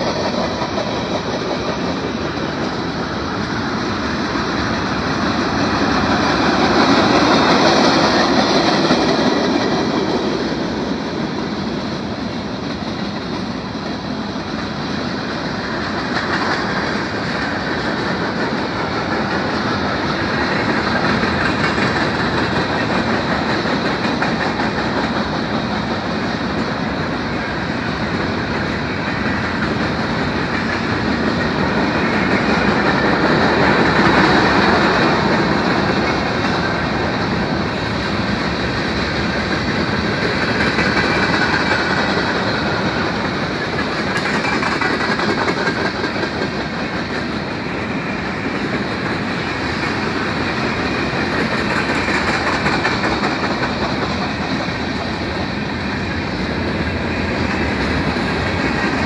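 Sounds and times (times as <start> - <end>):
freight train cars rolling past: 0.0 - 59.0
wheels clacking over rails: 0.0 - 59.0.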